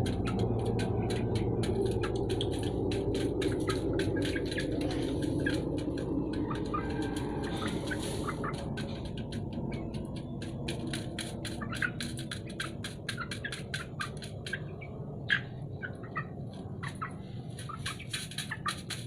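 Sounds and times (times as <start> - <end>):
chickens pecking grains: 0.0 - 19.0
chicks chirping: 0.0 - 19.0.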